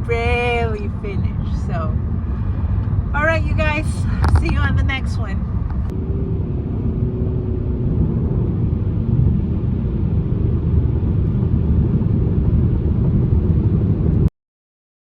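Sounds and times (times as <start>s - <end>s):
car road and engine rumble: 0.0s - 14.3s.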